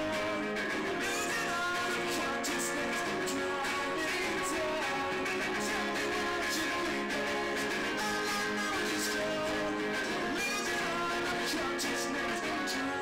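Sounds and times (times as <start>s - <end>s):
acoustic guitars strumming: 0.0s - 13.0s
person singing: 0.0s - 13.0s.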